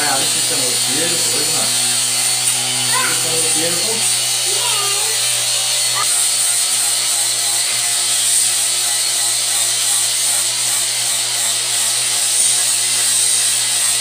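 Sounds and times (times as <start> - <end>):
angle grinder grinding steel: 0.0 - 14.0.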